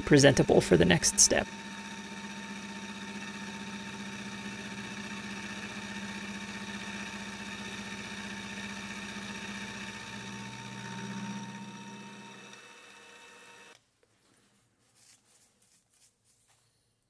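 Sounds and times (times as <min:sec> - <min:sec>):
milling machine cutting metal: 0:00.0 - 0:13.8
motor hum with thin whine: 0:00.1 - 0:13.8.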